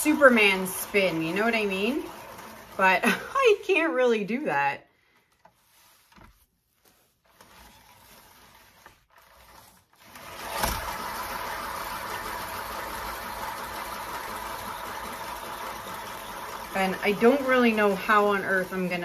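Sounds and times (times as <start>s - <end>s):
spinning canvas whirring rumble: 0.0s - 4.4s, 7.0s - 19.0s.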